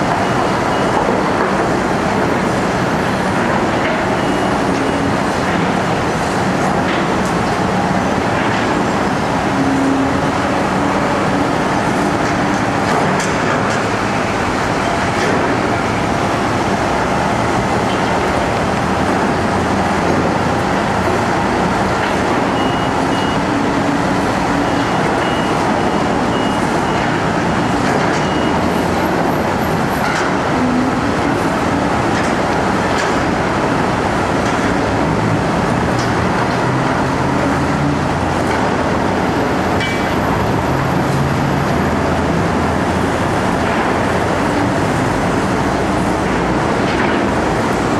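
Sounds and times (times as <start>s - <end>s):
heavy construction machinery running: 0.0s - 47.9s.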